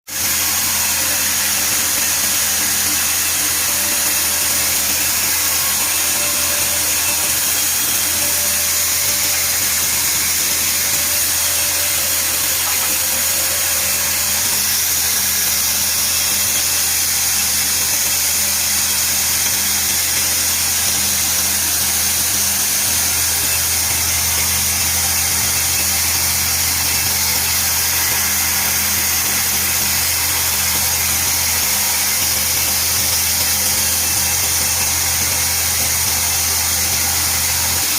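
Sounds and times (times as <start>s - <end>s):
power tool motor whining: 0.1s - 37.9s.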